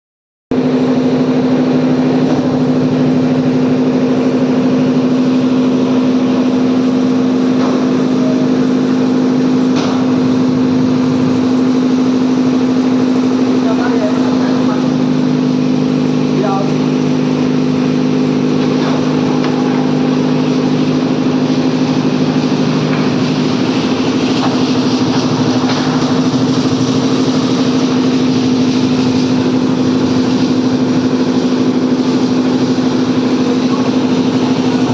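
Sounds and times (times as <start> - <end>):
airplane engines droning: 0.8 - 34.9.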